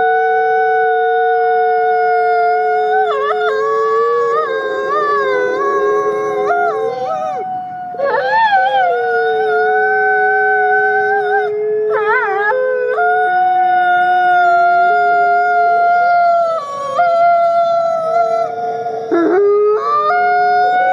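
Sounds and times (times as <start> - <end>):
wolves howling: 0.0 - 20.9.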